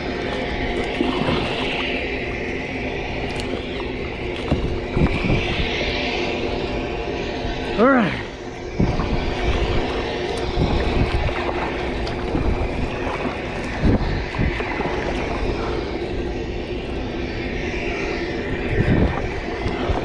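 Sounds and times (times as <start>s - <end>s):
waves rushing: 0.0s - 6.8s, 7.6s - 20.0s
mechanical hum: 0.0s - 20.0s
wind on microphone: 0.0s - 20.0s.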